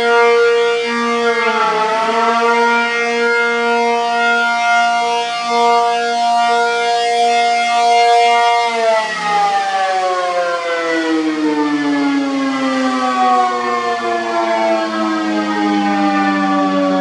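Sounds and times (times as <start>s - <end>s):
outdoor warning siren: 0.0s - 17.0s.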